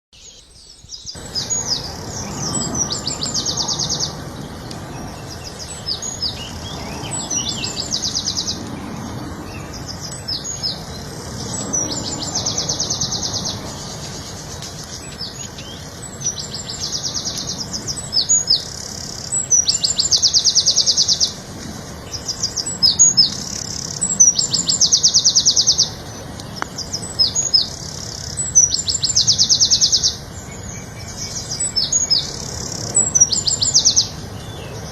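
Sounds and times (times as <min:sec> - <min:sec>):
songbird singing with trill: 0:00.2 - 0:34.9.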